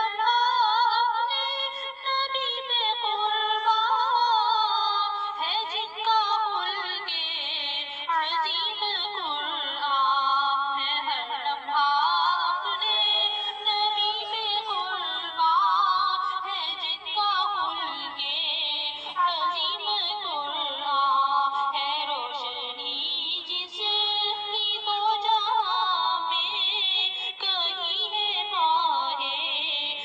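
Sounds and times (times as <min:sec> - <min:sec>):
high female voice singing: 0:05.4 - 0:30.0.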